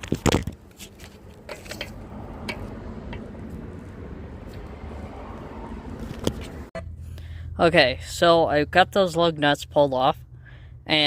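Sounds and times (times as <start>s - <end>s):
low background rumble: 0.6s - 11.0s.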